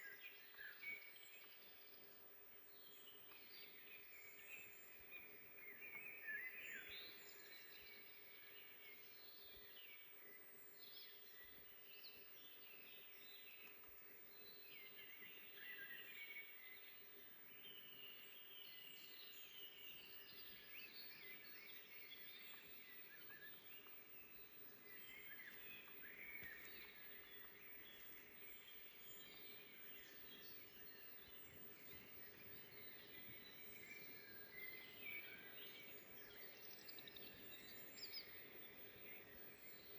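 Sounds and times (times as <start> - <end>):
songbirds chirping and singing: 2.7 - 39.9.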